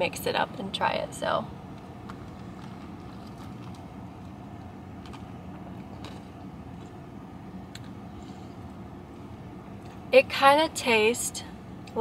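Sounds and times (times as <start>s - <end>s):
car idling with air conditioning: 0.0s - 12.0s.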